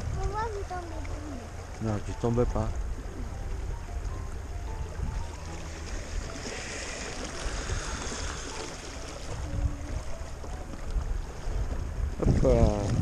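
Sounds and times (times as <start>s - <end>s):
water rushing along boat hull: 0.0s - 13.0s.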